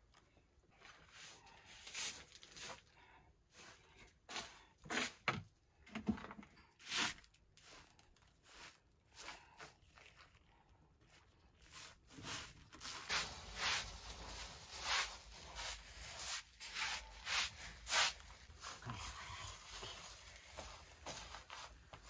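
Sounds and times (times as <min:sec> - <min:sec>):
hand broom sweeping a rug: 0:00.8 - 0:05.3, 0:06.8 - 0:09.8, 0:11.6 - 0:22.0.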